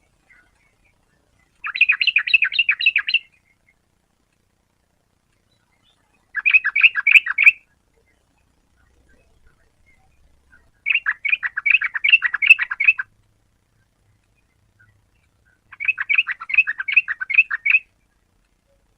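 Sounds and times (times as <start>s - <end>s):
bird chattering song: 0.0s - 4.0s, 5.3s - 13.1s, 13.8s - 18.9s.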